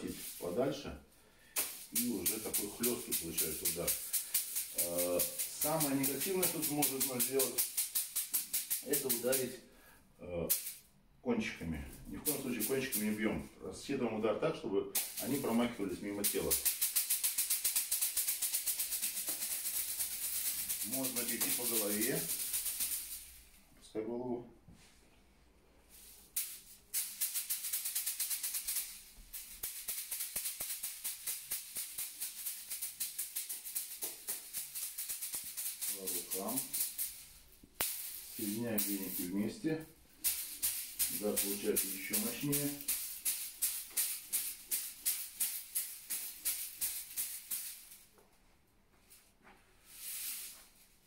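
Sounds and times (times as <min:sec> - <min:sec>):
bamboo whisks beating: 0:00.0 - 0:00.8, 0:01.4 - 0:09.6, 0:10.5 - 0:10.8, 0:12.0 - 0:13.4, 0:14.9 - 0:23.7, 0:25.9 - 0:48.2.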